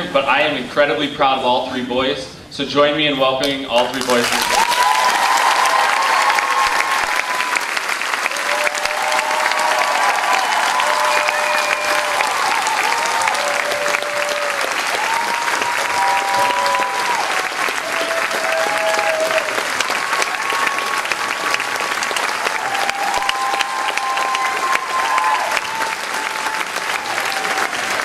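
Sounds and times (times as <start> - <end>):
audience applauding: 3.9 - 28.0.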